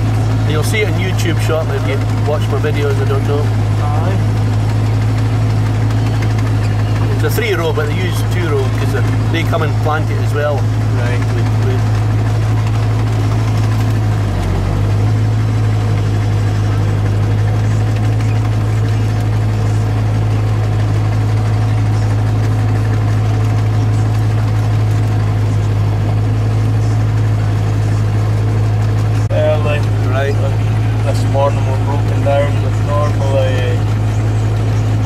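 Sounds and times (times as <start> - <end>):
tractor diesel engine drone: 0.0 - 35.0.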